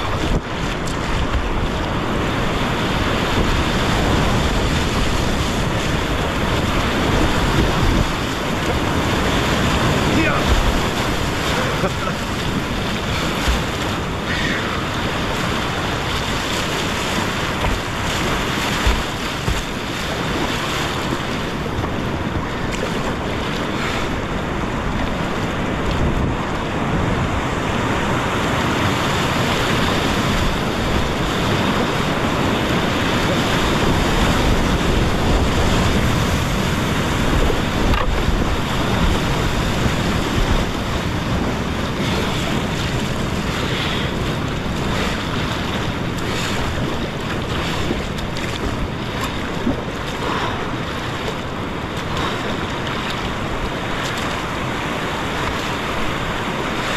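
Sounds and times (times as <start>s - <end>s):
whitewater rushing: 0.0s - 56.9s
wind buffeting microphone: 0.0s - 56.9s.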